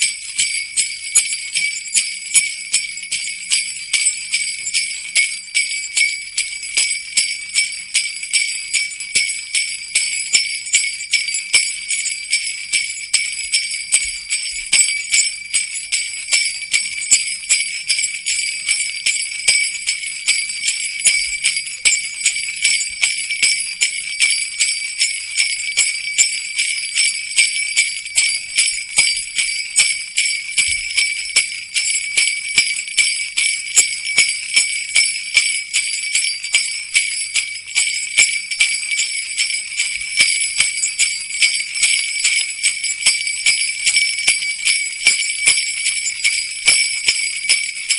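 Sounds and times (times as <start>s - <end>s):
jingle bells shaken: 0.0s - 47.9s.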